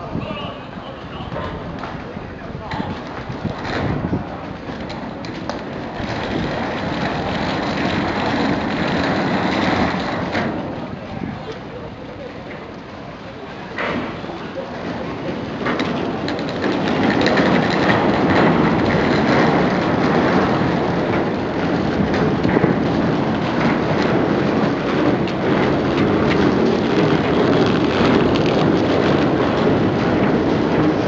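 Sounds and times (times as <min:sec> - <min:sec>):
crowd footsteps: 0:00.9 - 0:31.0
luggage wheels rolling: 0:01.3 - 0:31.0.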